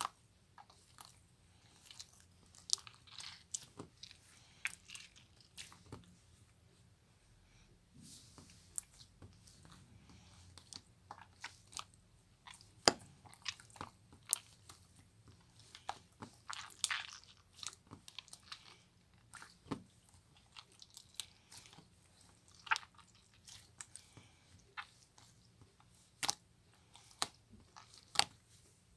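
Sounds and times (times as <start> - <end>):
slime crackling: 0.0 - 6.2, 8.4 - 28.6.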